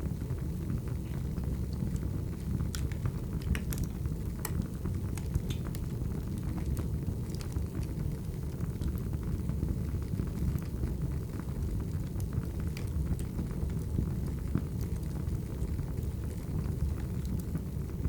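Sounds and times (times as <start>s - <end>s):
firewood burning: 0.0s - 18.0s.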